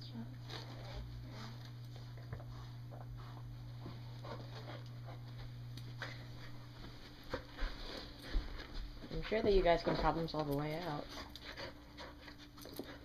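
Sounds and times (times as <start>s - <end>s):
dogs rustling and mouthing: 0.4s - 13.0s.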